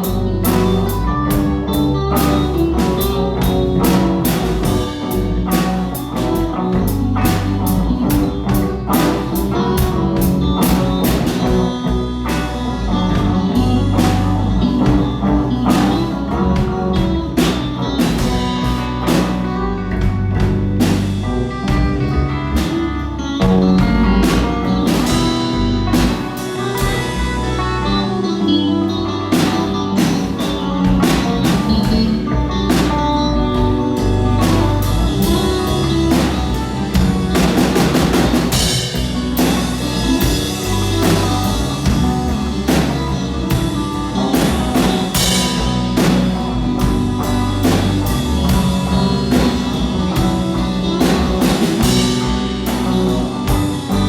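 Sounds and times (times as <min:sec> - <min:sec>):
bass notes: 0:00.0 - 0:54.0
drum kit beat: 0:00.0 - 0:54.0
electric guitar: 0:00.0 - 0:54.0.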